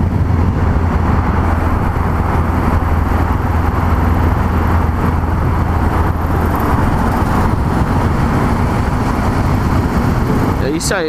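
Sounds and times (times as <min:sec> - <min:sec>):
motorcycle engine running: 0:00.0 - 0:10.8
road and wind noise: 0:00.0 - 0:11.0.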